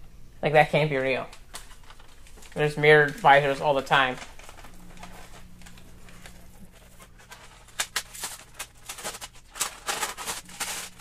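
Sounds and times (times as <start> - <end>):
low steady hum: 0.0 - 11.0
plastic wrapping crinkling: 0.9 - 11.0.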